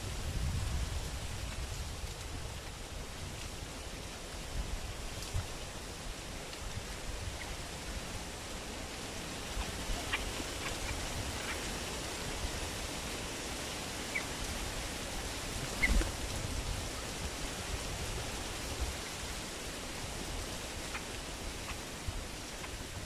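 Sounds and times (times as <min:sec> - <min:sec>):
outdoor hiss: 0:00.0 - 0:23.0
wind rumble on microphone: 0:00.0 - 0:23.0.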